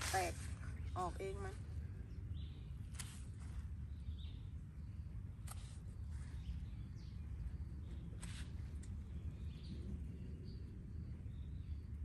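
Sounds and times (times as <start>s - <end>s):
steady low rumble: 0.0s - 12.0s
faint birds chirping: 0.1s - 12.0s.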